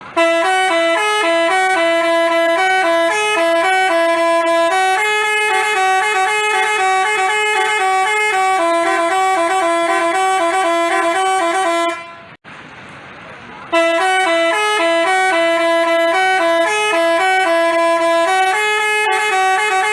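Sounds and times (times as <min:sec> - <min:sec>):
multi-note bus horn melody: 0:00.0 - 0:12.4, 0:13.7 - 0:19.9.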